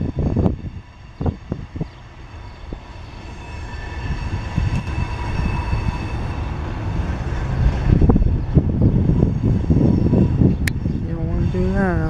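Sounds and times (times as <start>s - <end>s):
freight train cars rumbling: 0.0s - 12.0s
train wheels squealing: 0.0s - 12.0s.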